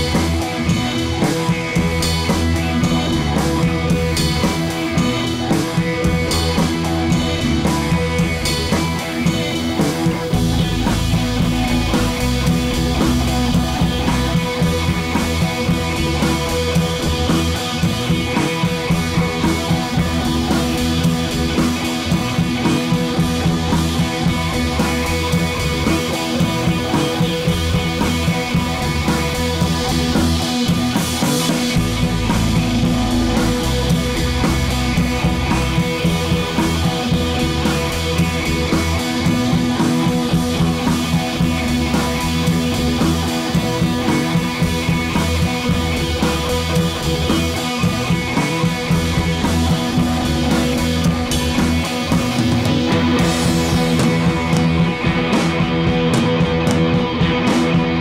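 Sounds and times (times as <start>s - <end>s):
rock music with guitar and drums: 0.0s - 58.0s.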